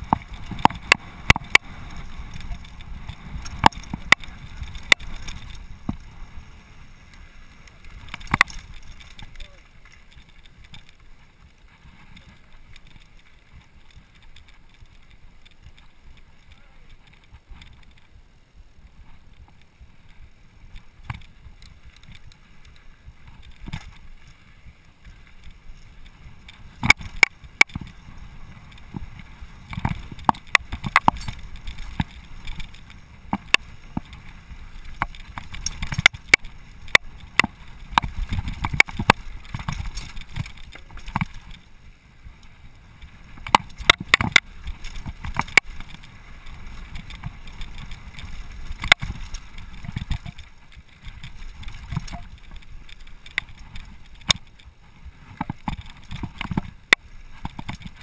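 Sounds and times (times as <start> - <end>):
bike clacking and rattling over bumps: 0.0 - 58.0
wind and tyres rumbling: 0.0 - 58.0.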